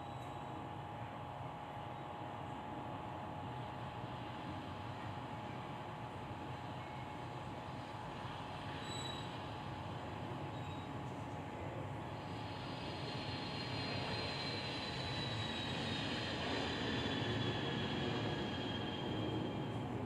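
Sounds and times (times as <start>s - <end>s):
faint high whine: 3.4s - 20.0s.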